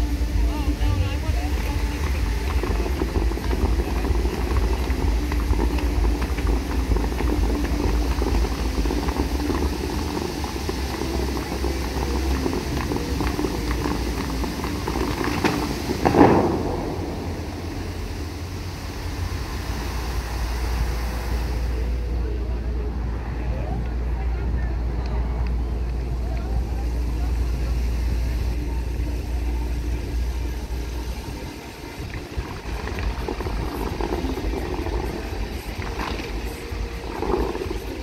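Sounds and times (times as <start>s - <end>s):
fountain water jets splashing: 0.0s - 38.0s
low rumble: 0.0s - 38.0s.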